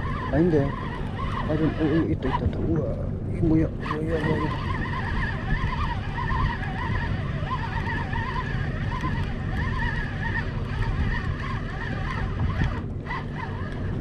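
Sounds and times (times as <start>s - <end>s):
fishing reel gears whining: 0.0s - 14.0s
steady low rumble: 0.0s - 14.0s.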